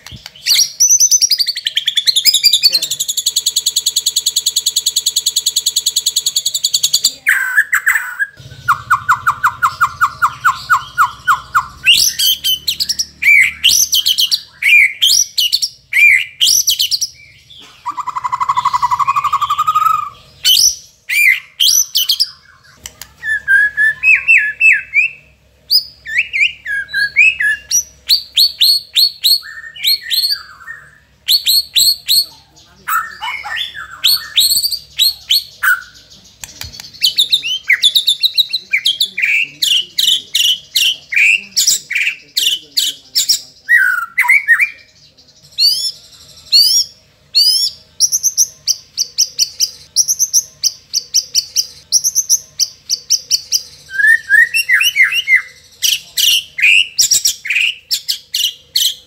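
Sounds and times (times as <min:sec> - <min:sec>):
bird singing varied song: 0:00.0 - 0:59.0
buzzy bird trill: 0:00.0 - 0:59.0.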